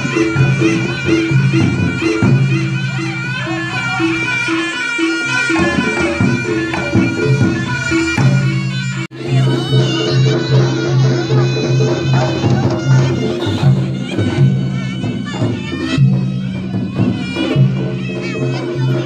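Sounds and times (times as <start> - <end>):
shawm playing wavering melody: 0.0 - 19.0.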